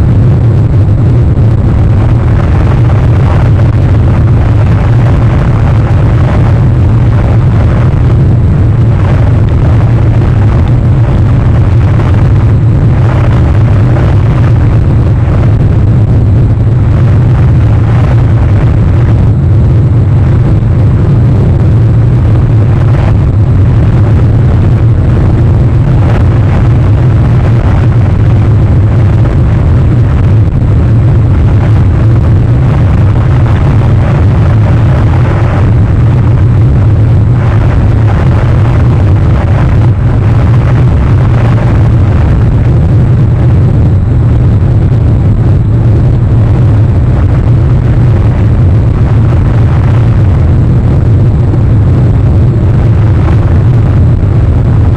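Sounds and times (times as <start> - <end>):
loud low rumble: 0.0 - 54.9
noisy hiss: 0.0 - 54.9.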